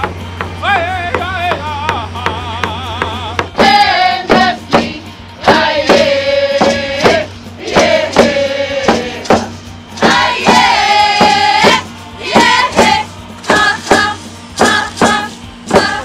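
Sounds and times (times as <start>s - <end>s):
group singing long notes: 0.0s - 16.0s
hand drums beating: 0.0s - 16.0s.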